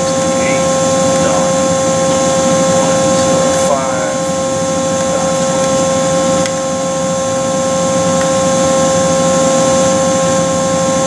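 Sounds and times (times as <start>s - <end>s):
machine hum with fixed tones: 0.0s - 11.0s.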